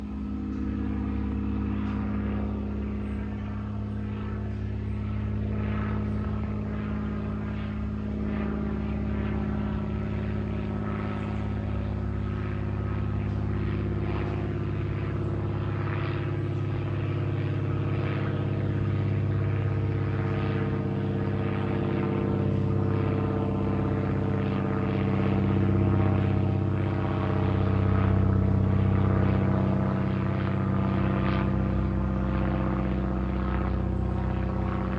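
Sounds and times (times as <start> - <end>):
propeller plane droning: 0.0 - 34.9.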